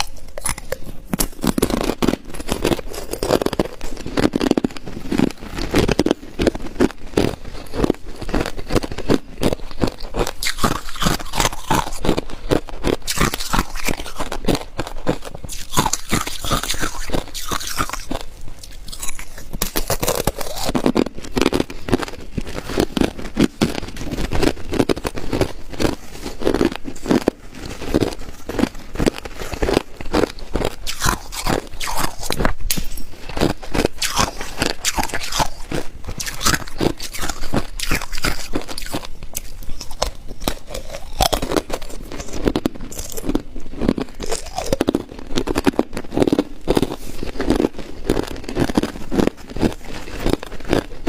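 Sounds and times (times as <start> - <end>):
ice crunching between teeth: 0.0 - 51.0.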